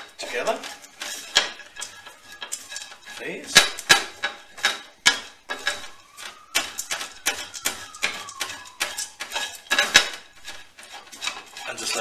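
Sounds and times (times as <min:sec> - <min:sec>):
wooden spoon scraping seeds in pan: 0:00.0 - 0:12.0.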